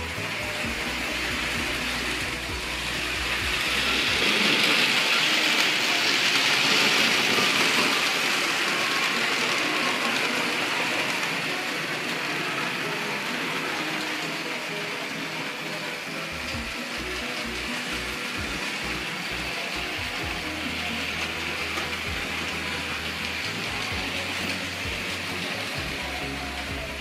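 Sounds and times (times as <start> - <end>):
model train rattling on track: 0.0 - 27.0.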